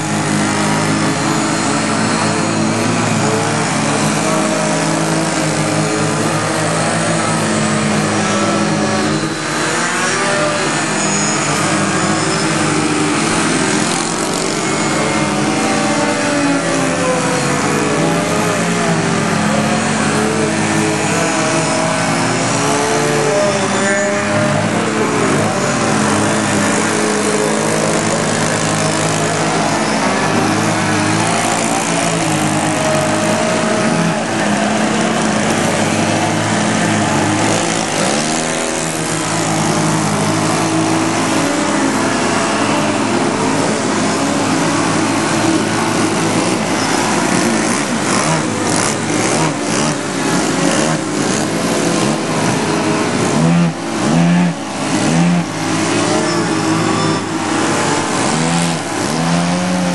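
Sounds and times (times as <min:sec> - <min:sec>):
model airplane engines: 0:00.0 - 0:59.9.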